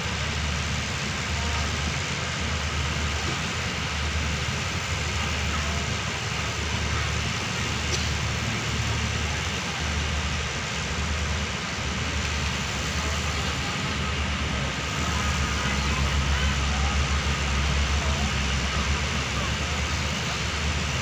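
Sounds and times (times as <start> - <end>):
locomotive diesel engine humming: 0.0 - 21.0.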